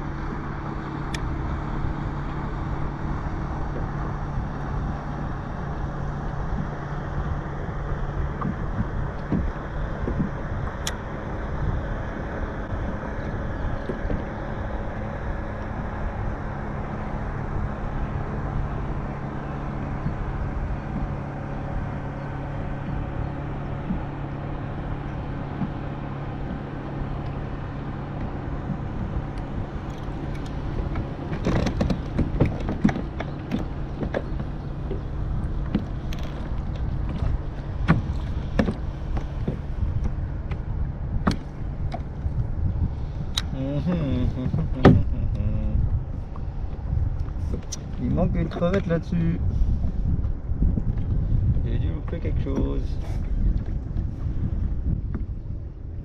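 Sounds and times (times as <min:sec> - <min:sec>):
motor droning: 0:00.0 - 0:56.0
wind on microphone: 0:00.0 - 0:56.0.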